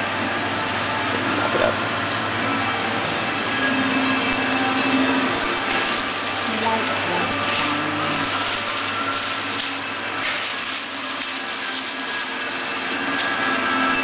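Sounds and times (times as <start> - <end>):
steady whirring noise: 0.0 - 14.0.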